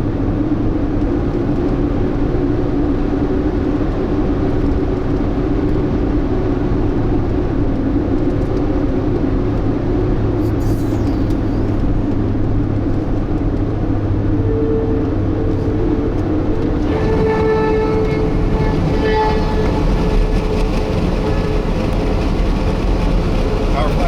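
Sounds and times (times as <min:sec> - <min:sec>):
vehicle road and engine noise: 0:00.0 - 0:24.0.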